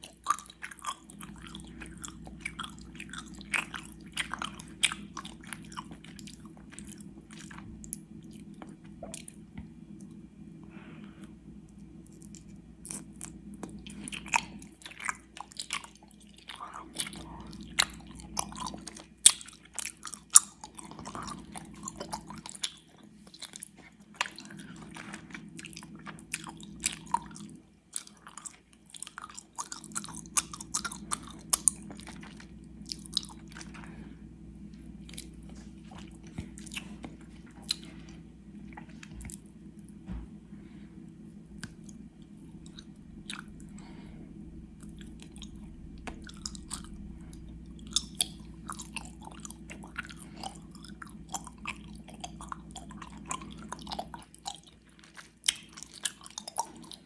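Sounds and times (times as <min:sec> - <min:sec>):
wet chewing mouth clicks: 0:00.0 - 0:10.2, 0:11.7 - 0:34.0, 0:34.7 - 0:39.5, 0:41.5 - 0:44.0, 0:44.8 - 0:57.0.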